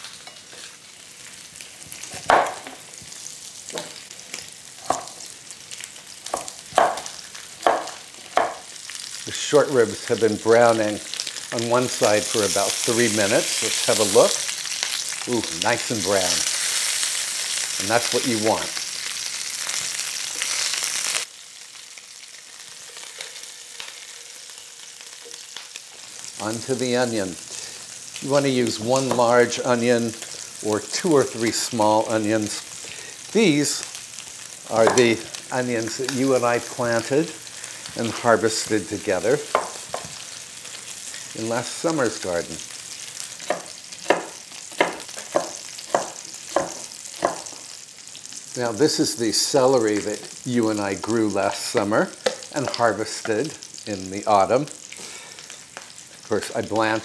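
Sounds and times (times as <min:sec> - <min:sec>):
meat sizzling in skillet: 0:00.0 - 0:57.0.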